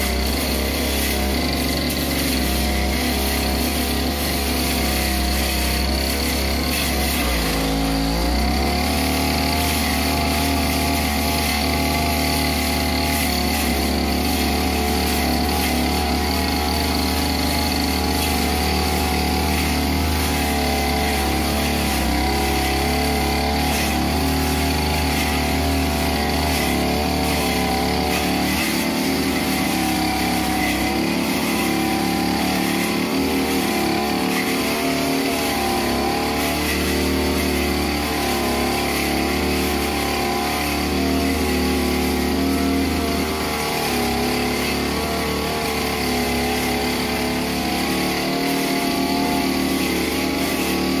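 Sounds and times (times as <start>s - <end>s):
blade cutting weeds and grass: 0.0s - 51.0s
brush cutter engine running: 0.0s - 51.0s.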